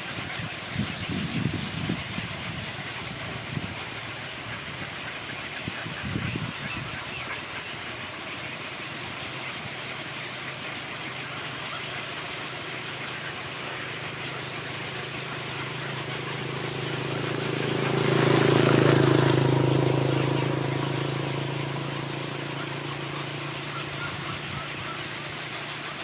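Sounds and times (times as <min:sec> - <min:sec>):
low engine hum: 0:00.0 - 0:26.0
steady background noise: 0:00.0 - 0:26.0.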